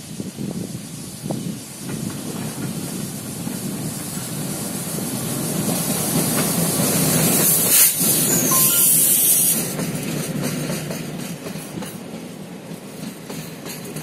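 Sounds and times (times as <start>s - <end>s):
diesel locomotives chugging: 0.0s - 14.0s
hiss of engines and wheels: 0.0s - 14.0s.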